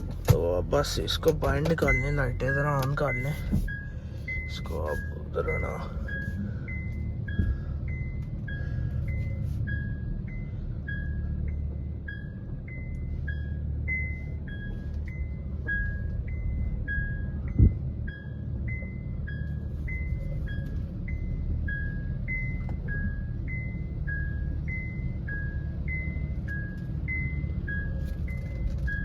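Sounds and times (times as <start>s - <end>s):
low engine rumble: 0.0s - 29.0s
car two-note warning beep: 0.8s - 29.0s.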